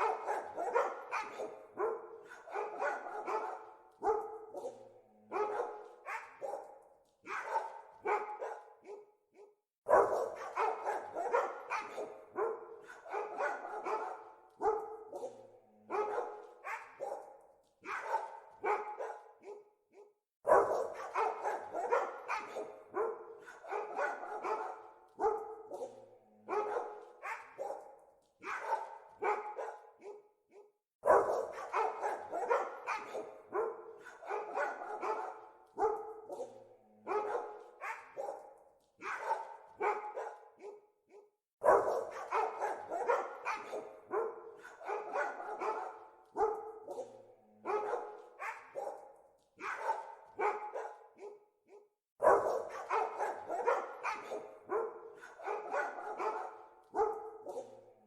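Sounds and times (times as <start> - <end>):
dogs barking: 0.0 - 58.0.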